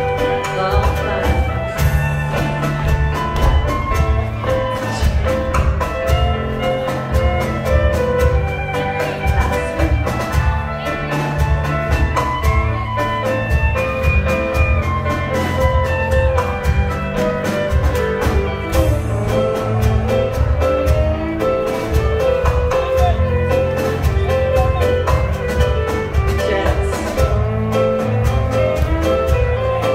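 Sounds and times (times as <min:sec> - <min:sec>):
live band playing dance tune: 0:00.0 - 0:29.9.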